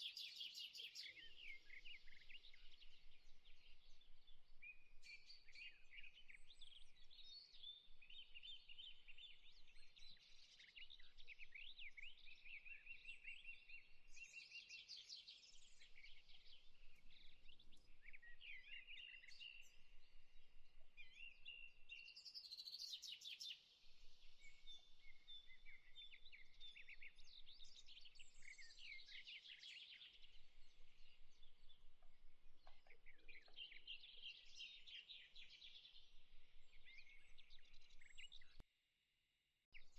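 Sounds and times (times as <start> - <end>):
songbirds chirping: 0.0 - 38.6.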